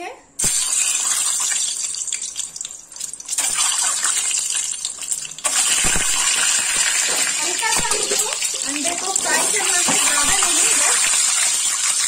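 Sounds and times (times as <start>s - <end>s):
hot oil sizzling: 0.4s - 12.0s.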